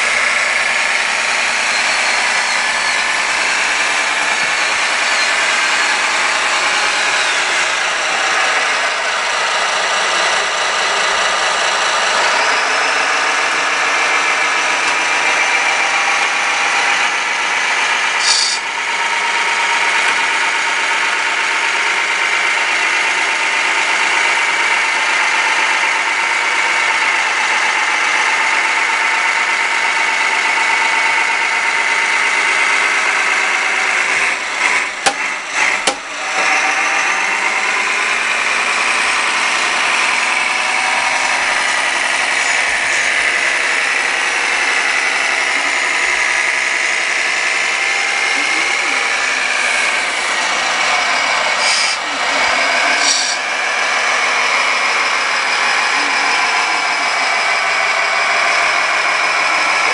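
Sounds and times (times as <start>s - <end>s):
electronic diesel engine sound: 0.0s - 59.9s.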